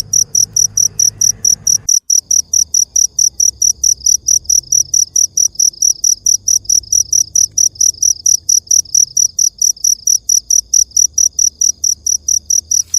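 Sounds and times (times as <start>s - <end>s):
cricket chirping: 0.0s - 12.9s.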